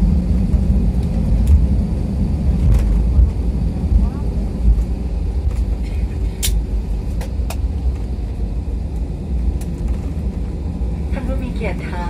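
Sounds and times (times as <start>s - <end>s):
airliner wheels and engines rumbling: 0.0s - 12.0s.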